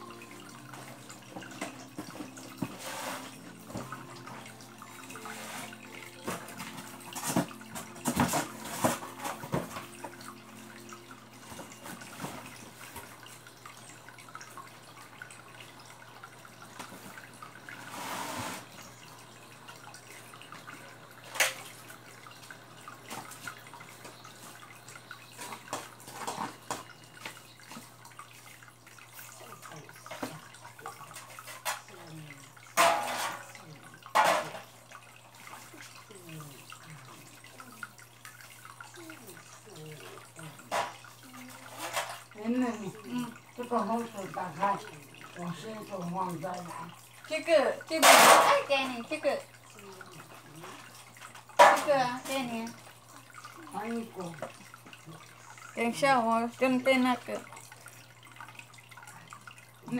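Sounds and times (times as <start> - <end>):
water dripping into tank: 0.0 - 18.0, 18.6 - 59.9.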